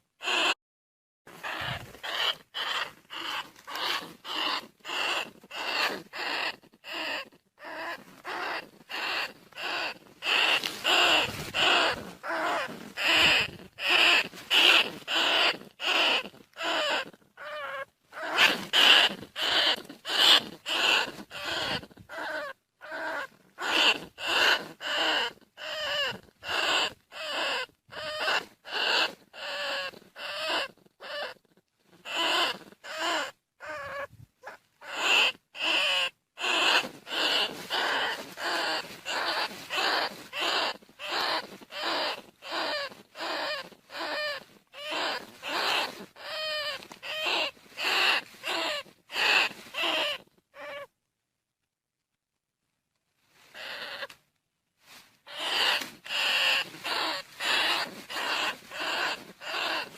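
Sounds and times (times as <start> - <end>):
rat squealing: 0.2 - 0.6, 1.4 - 50.9, 53.5 - 54.2, 55.3 - 59.9.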